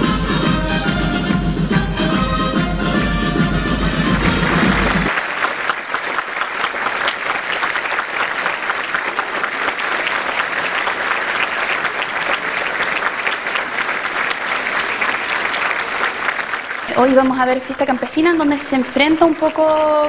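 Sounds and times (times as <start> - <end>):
audience applauding: 3.9 - 20.0.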